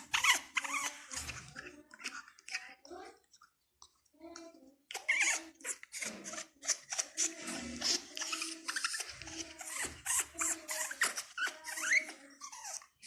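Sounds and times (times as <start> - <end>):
parrot chattering and squeaking: 0.0 - 2.8, 4.9 - 13.0.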